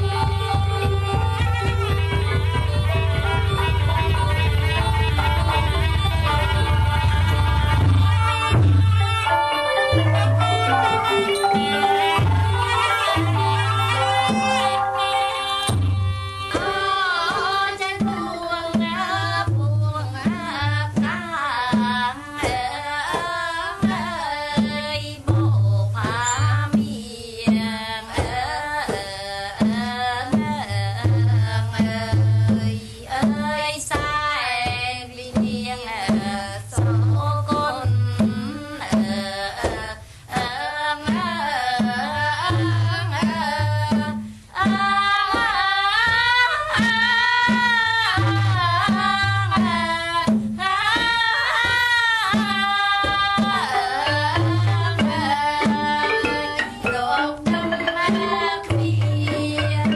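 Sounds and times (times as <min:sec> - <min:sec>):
child singing: 0:00.0 - 0:07.0, 0:09.5 - 0:59.9
backing music with drum beat: 0:00.0 - 0:59.9.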